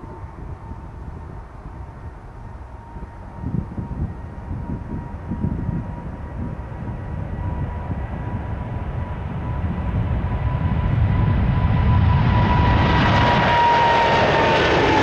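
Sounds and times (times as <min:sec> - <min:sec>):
jet engines rumbling: 0:00.0 - 0:15.0
thin steady engine whine: 0:00.0 - 0:15.0.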